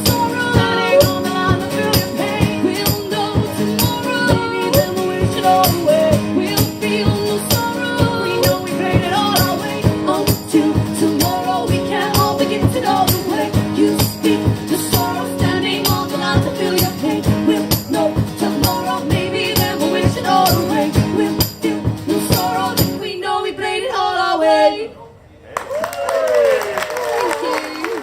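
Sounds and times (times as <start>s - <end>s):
live band playing folk-pop: 0.0s - 23.2s.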